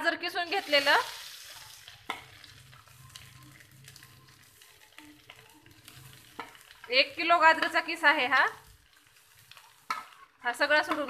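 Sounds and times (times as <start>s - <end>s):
grated carrot sizzling in ghee: 0.0s - 11.0s.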